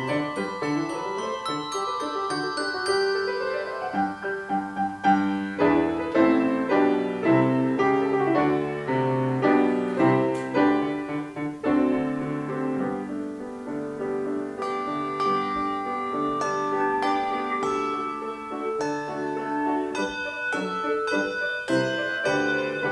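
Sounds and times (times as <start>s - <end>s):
handbells playing a hymn: 0.0s - 11.2s, 14.6s - 22.9s.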